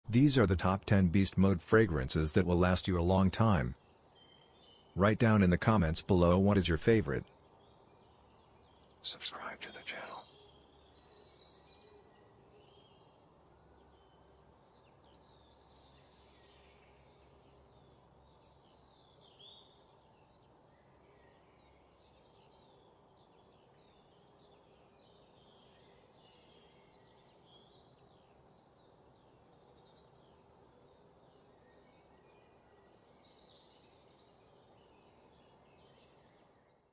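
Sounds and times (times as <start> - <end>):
faint birds chirping: 0.0 - 36.9
low steady hiss: 0.1 - 36.9.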